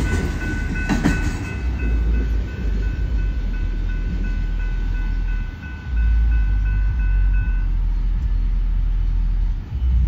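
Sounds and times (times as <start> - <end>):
freight train rolling on jointed track: 0.0 - 10.0.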